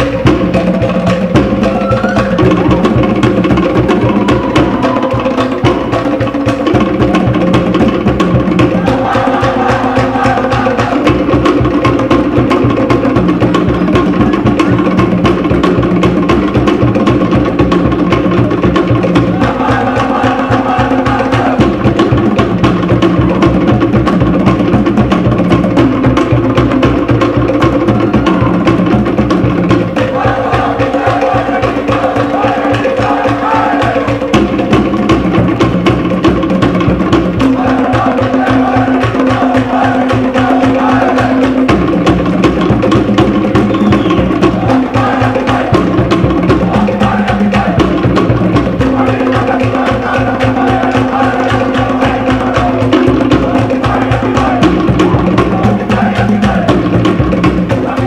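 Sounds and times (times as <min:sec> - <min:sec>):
deeper drums: 0:00.0 - 0:58.0
wooden slit drums fast rhythm: 0:00.0 - 0:58.0.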